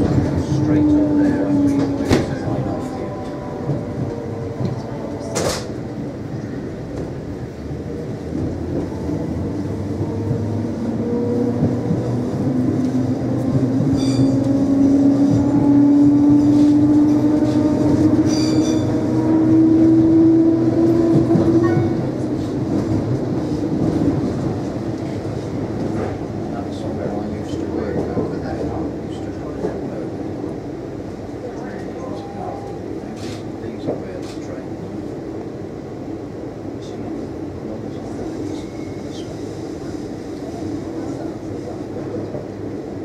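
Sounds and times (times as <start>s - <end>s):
train traction drive whining: 0.0s - 43.0s.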